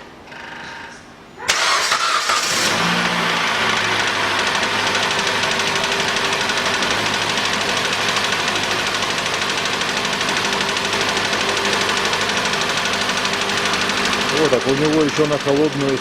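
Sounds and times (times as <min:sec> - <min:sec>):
car engine idling with rapid knock: 0:01.6 - 0:16.0.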